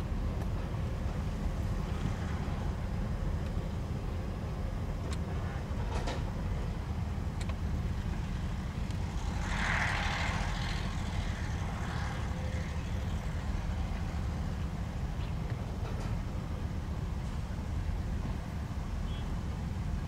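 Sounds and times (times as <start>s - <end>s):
excavators and dump trucks rumbling: 0.0s - 20.0s.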